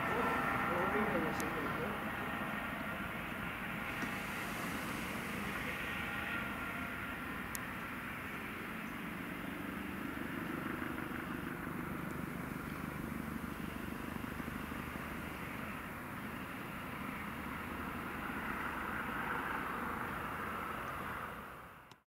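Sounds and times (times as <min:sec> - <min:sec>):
helicopter hovering: 0:00.0 - 0:21.8.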